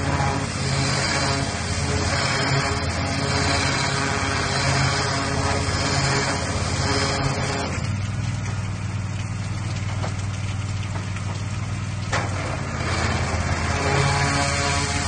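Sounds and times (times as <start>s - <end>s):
pressure washer engine running: 0.0s - 15.0s
water spray hitting metal roof: 0.0s - 15.0s.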